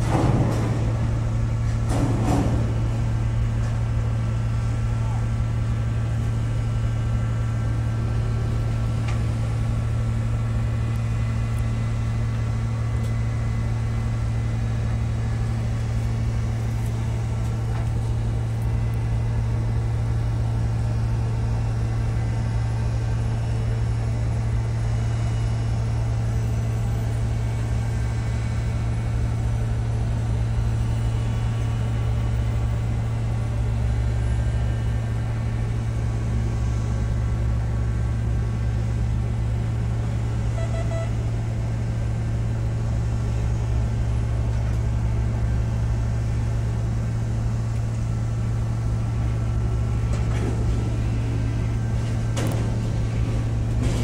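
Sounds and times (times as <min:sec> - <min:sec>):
low machinery hum: 0:00.0 - 0:54.0.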